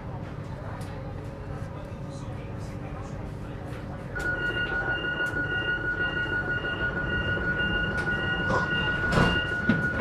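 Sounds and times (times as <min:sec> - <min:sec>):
low train rumble: 0:00.0 - 0:10.0.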